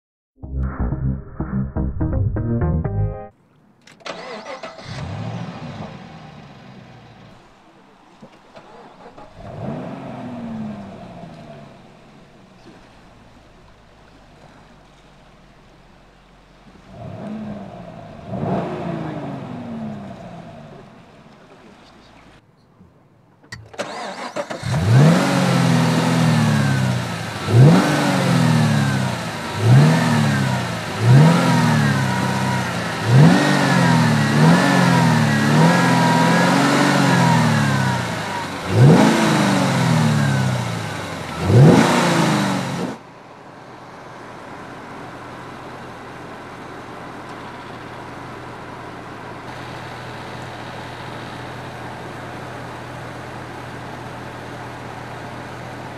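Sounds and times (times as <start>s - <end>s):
car engine idling and revving: 4.0s - 22.4s, 23.4s - 55.9s.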